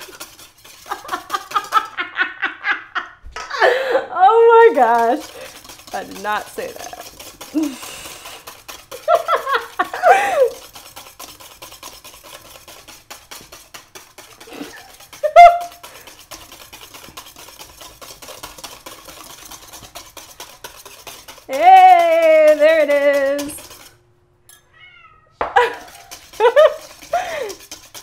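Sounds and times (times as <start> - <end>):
whisk beating metal bowl: 0.0 - 2.9, 3.6 - 24.0, 25.5 - 28.0.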